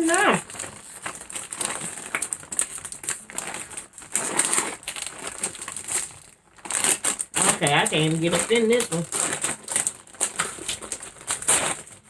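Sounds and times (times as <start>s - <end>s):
foil chip bag crinkling: 0.0s - 12.0s.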